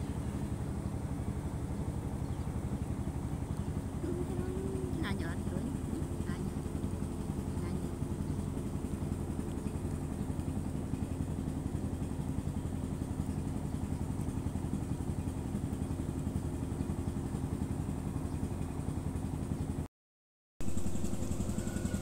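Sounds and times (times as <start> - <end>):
small engine idling: 0.0 - 19.9, 20.6 - 22.0.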